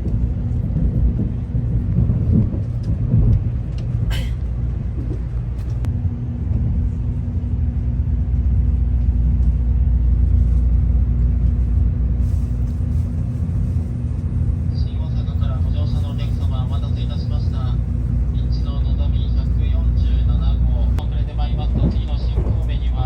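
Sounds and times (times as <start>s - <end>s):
vehicle rumble from inside: 0.0s - 23.0s.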